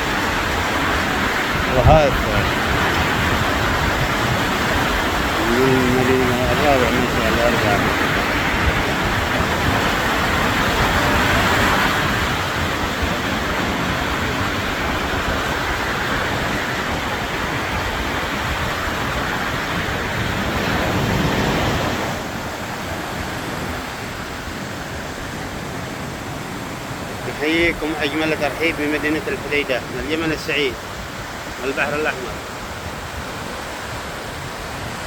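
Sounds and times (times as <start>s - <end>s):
sea surf washing on beach: 0.0s - 35.0s
wind buffeting microphone: 0.0s - 35.0s.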